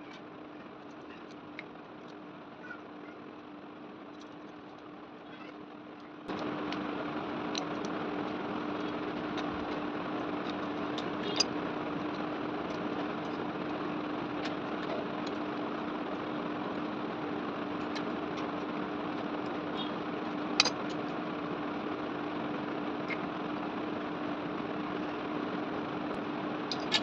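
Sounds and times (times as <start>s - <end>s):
electric fan running: 0.0s - 27.0s.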